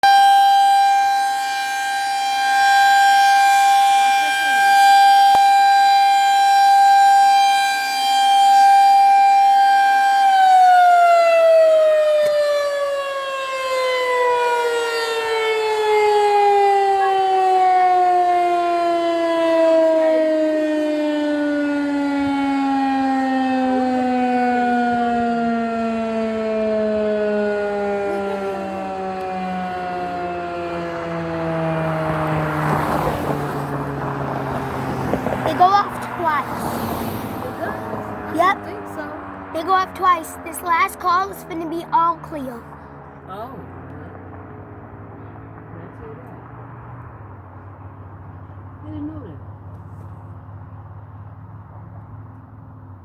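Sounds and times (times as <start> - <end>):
warning siren: 0.0 - 53.0.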